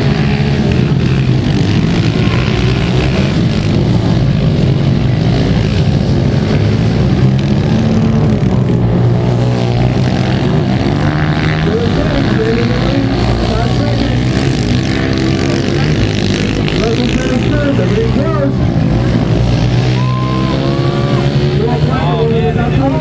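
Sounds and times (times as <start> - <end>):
pit bike engines racing: 0.0 - 23.0.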